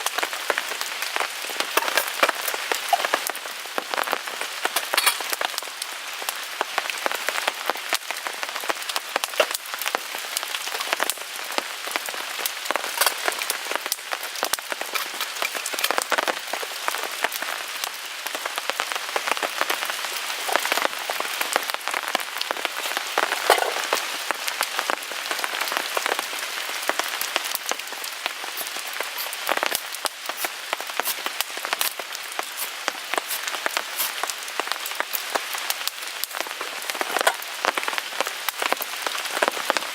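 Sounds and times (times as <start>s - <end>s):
rain pattering on a tarp: 0.0s - 39.9s
wood fire crackling: 0.0s - 39.9s.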